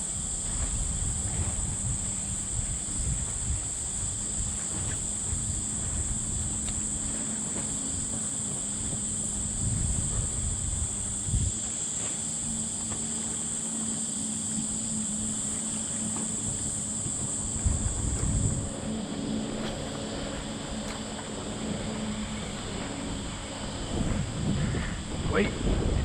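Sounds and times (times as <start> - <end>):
high-pitched insect drone: 0.0 - 26.0
wind rumbling on microphone: 0.0 - 26.0.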